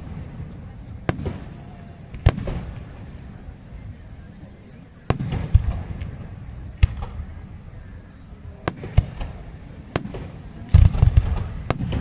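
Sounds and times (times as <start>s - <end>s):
fireworks bangs: 0.0s - 3.4s, 5.0s - 7.7s, 8.5s - 12.0s.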